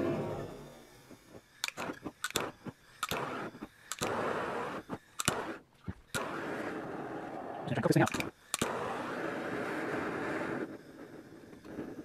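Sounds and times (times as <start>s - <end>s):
gas hissing: 0.0s - 12.0s
torch igniter clicking: 1.1s - 12.0s.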